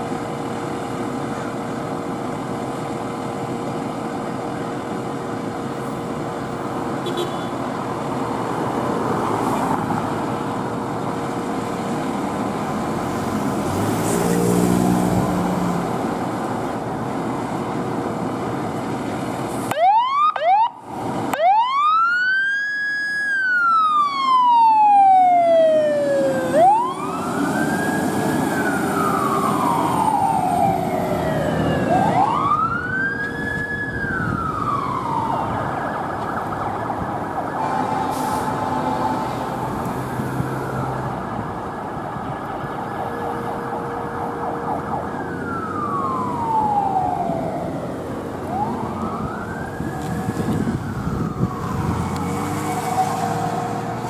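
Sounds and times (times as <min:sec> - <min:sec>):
fire engine siren wailing: 0:00.1 - 0:54.0.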